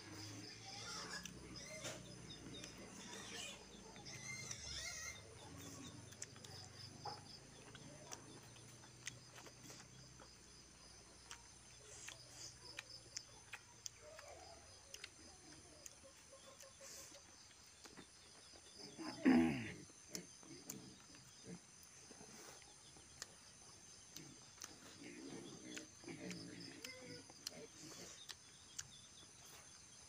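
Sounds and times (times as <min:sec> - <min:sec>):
birds chirping: 0:00.0 - 0:30.0
people chewing and lip-smacking: 0:00.0 - 0:30.0.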